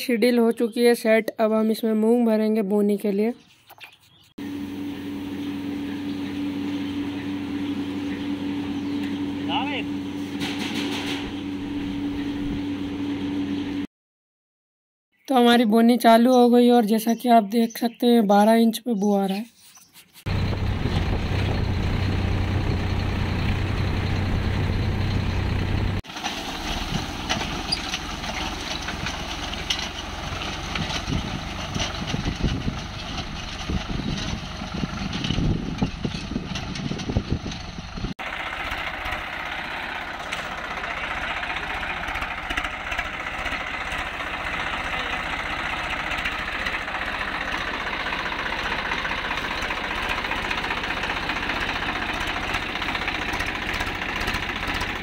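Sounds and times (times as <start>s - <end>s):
tractor diesel engine running: 4.4s - 13.9s, 20.3s - 55.0s.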